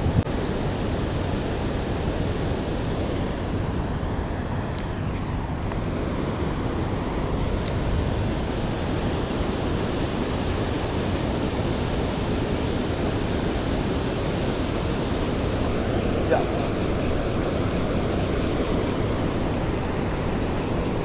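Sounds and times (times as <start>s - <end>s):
river water rushing: 0.0s - 21.0s
wind on microphone: 0.0s - 21.0s.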